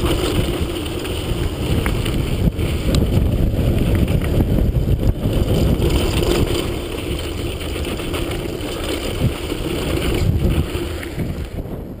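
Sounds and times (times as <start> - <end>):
knocks and rattles: 0.0 - 11.6
bike tyres on gravel: 0.0 - 12.0
wind on microphone: 0.0 - 12.0.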